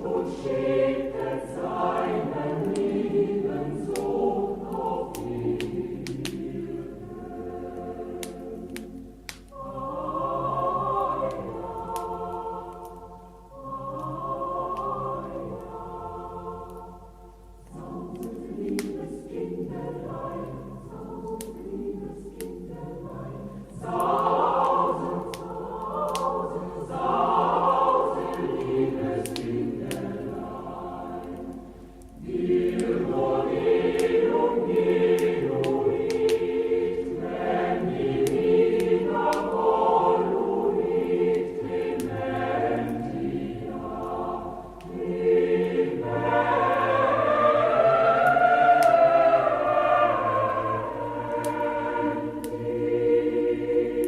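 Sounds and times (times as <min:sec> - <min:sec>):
choir singing a carol: 0:00.0 - 0:54.0
log fire crackling: 0:00.0 - 0:54.0.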